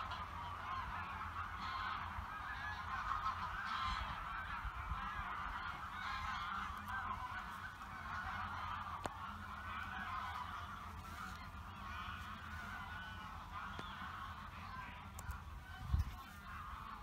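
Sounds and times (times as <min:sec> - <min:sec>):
flock of birds honking: 0:00.0 - 0:17.0.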